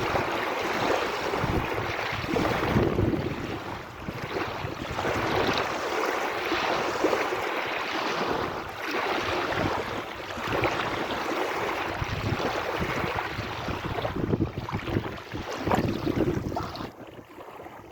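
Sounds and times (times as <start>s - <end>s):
sea waves washing ashore: 0.0s - 17.9s.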